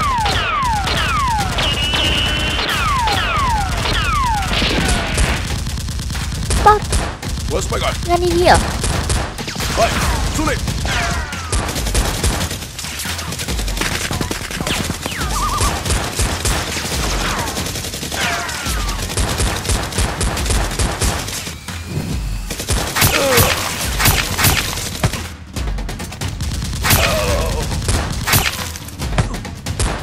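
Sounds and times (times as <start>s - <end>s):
automatic gunfire sound effects: 0.0s - 25.3s.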